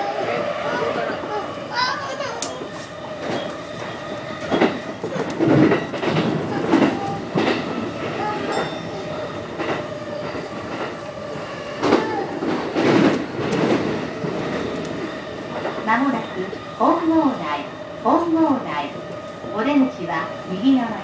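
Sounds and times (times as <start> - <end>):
train running on rails: 0.0 - 21.0.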